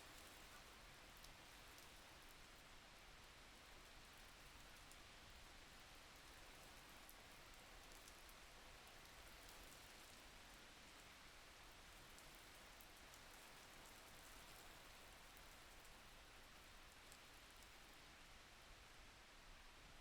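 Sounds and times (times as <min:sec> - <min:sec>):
soft rain falling: 0:00.0 - 0:20.0.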